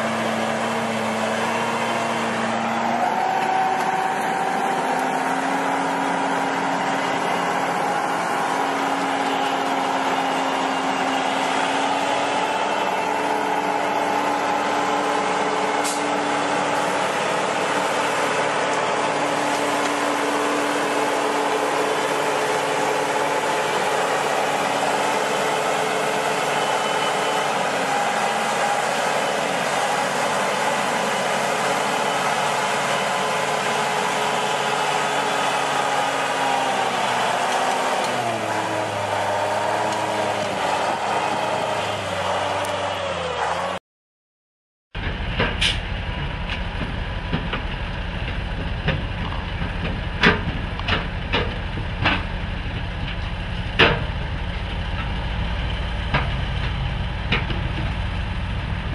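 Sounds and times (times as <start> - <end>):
tracked vehicle diesel engine droning: 0.0 - 43.8, 45.0 - 58.9.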